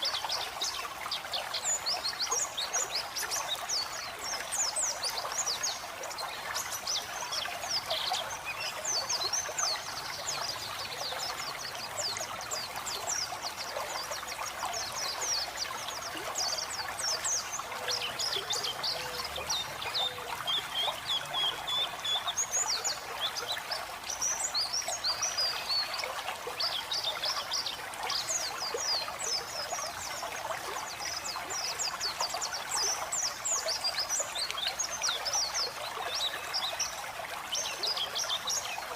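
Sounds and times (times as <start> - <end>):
birds twittering and trilling: 0.0 - 38.9
trickling running water: 0.0 - 38.9.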